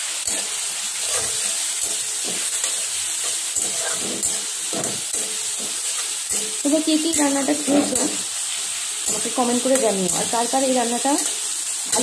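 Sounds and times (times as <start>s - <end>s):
paste sizzling in hot oil: 0.0s - 12.0s
spatula scraping a pan: 0.0s - 12.0s.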